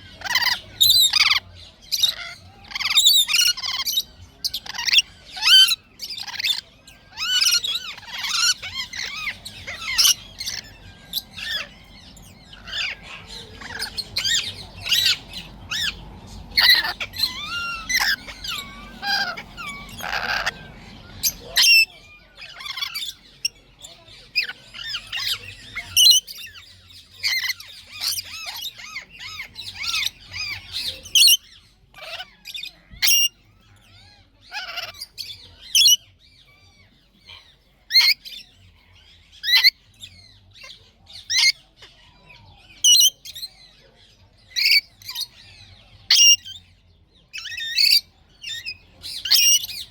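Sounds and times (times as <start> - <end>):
lorikeets screeching: 0.0 - 43.8, 44.5 - 49.9.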